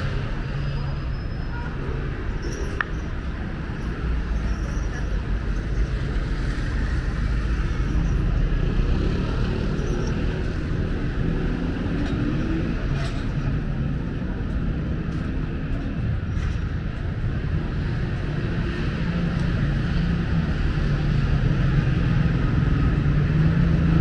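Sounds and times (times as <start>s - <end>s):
cars passing by: 0.0s - 24.0s
city street traffic: 0.0s - 24.0s.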